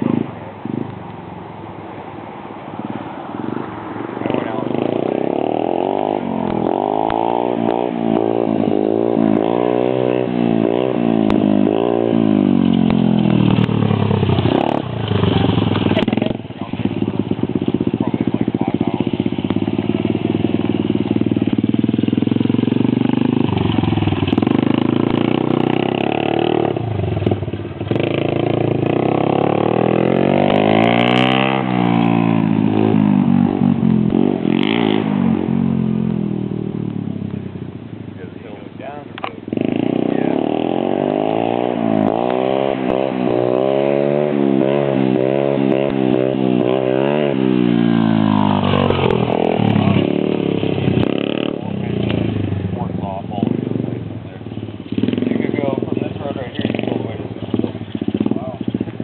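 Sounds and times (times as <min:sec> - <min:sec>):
small motorcycle engine revving: 0:02.9 - 0:37.7, 0:39.2 - 0:59.0.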